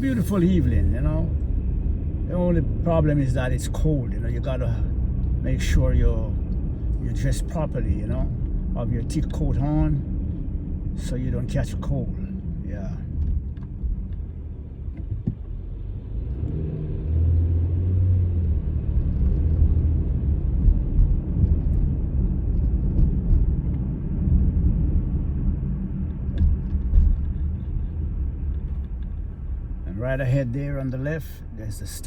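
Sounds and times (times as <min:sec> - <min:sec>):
car engine and tyres rumbling: 0:00.0 - 0:32.0.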